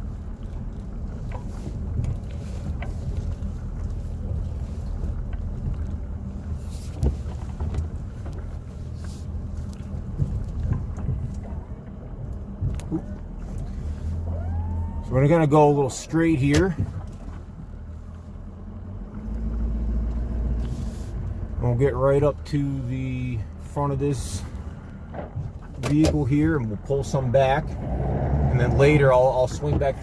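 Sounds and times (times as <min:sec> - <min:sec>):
diesel truck engine humming: 0:00.0 - 0:30.0.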